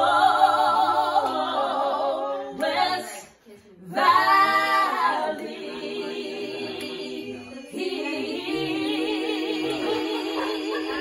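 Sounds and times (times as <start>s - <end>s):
women singing a cappella hymn: 0.0s - 11.0s.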